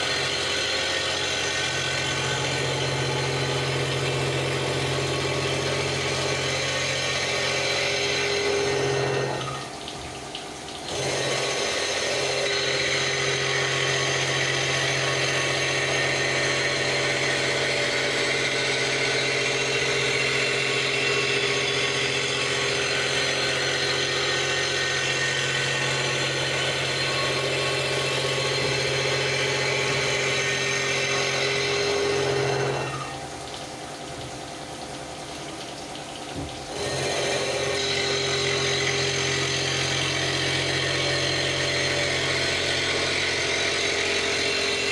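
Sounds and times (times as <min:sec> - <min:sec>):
milling machine cutting metal: 0:00.0 - 0:44.9.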